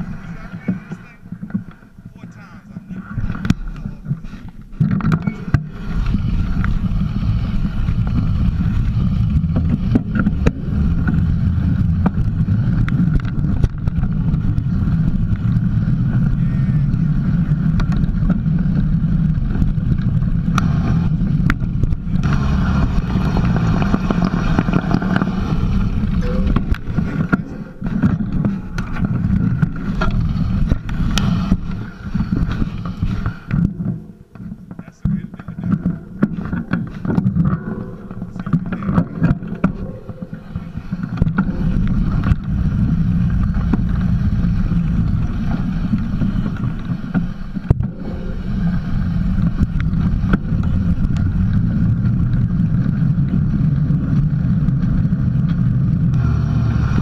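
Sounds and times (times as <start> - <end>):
wind and tyre rumble: 0.0 - 57.0
bike clicks and knocks: 3.2 - 56.4.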